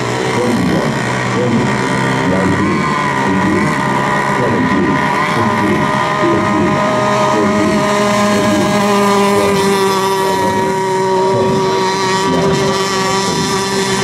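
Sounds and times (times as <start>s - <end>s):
model boat motors whining: 0.0s - 14.0s.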